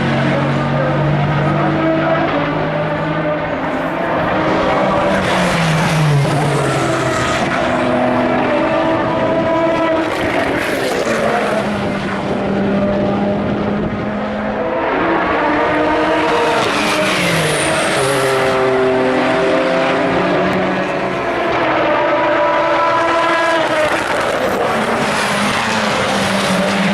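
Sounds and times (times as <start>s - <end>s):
race car engines: 0.0s - 26.9s.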